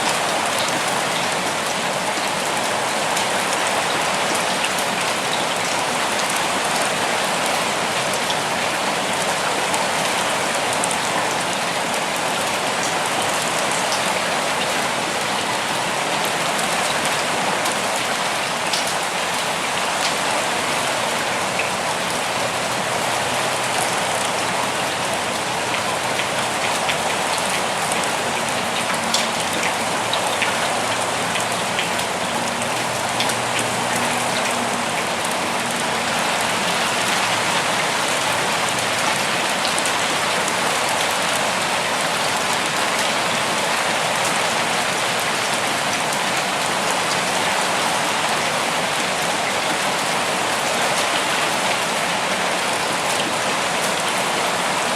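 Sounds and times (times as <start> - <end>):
rain falling: 0.0 - 54.9
raindrops pattering: 0.0 - 54.9.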